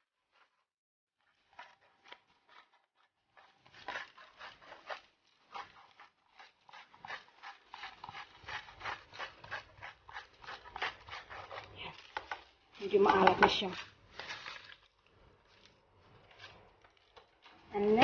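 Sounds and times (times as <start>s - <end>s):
salt grinder crunching: 1.3s - 18.0s.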